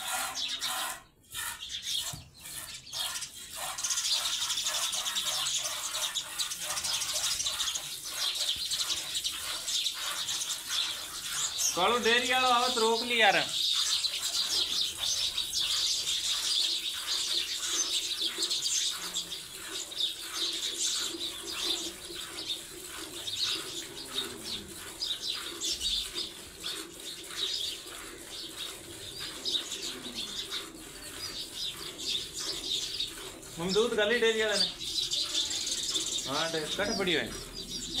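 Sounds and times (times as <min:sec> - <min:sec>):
milk squirts: 0:00.0 - 0:35.1.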